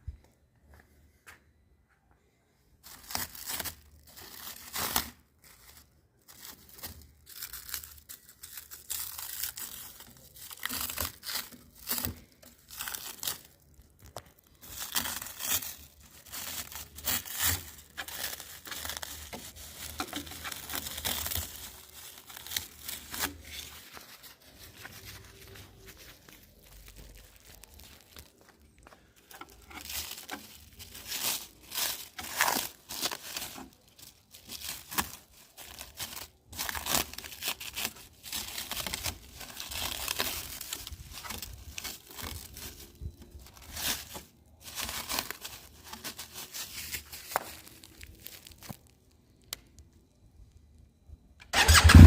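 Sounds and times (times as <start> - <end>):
packaging crinkling and tearing: 2.8 - 50.6.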